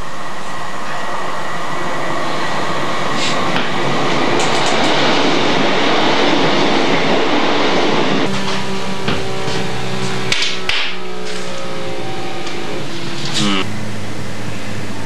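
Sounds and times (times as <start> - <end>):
train rail noise: 0.0 - 15.0.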